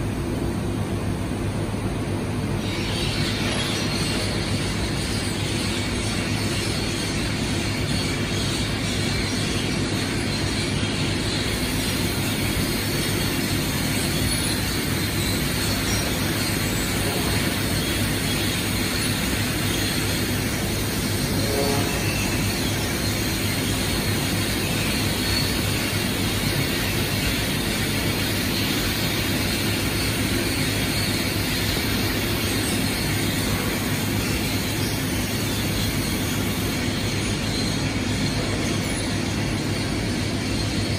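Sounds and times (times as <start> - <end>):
low even hum: 0.0 - 40.9
spraying booth hiss: 0.0 - 40.9.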